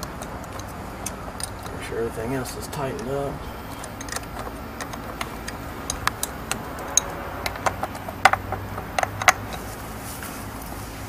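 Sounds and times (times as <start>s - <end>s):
hand tool clinking on metal connectors: 0.0s - 10.1s.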